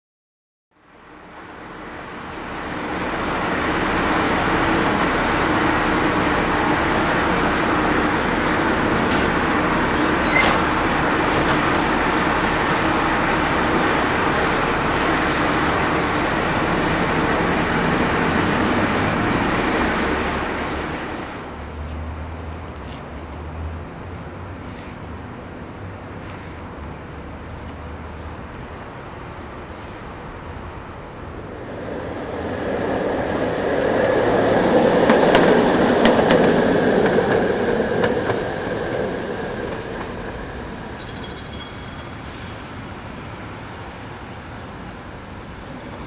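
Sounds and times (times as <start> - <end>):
streetcar motors and wheels running: 0.9 - 46.0.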